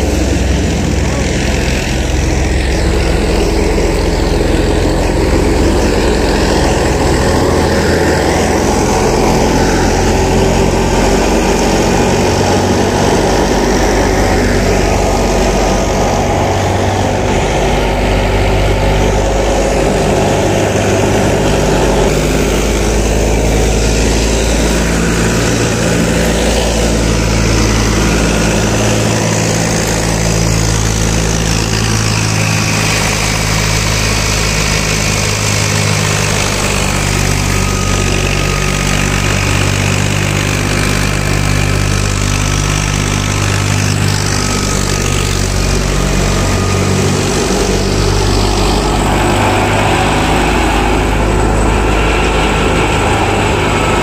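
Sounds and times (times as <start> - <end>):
thresher machinery drone: 0.0 - 54.0
tractor engine running: 0.0 - 54.0.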